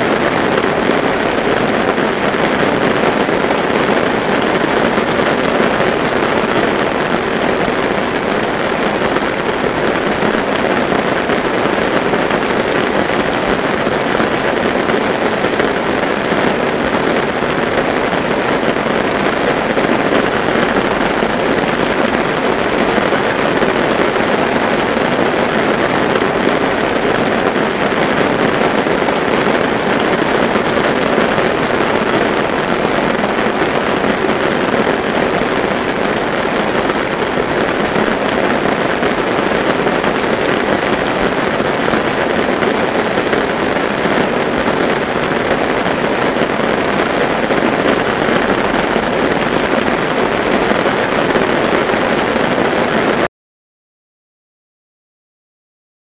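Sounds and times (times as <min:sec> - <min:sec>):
steady rain falling: 0:00.0 - 0:53.3.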